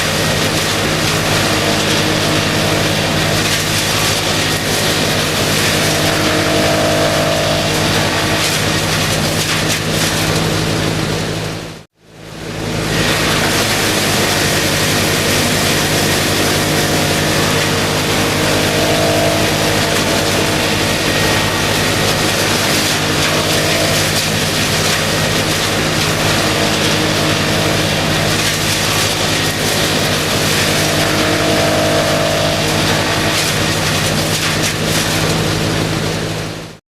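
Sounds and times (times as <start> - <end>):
high whine: 0.0 - 36.1
wood chipper running: 0.0 - 36.8.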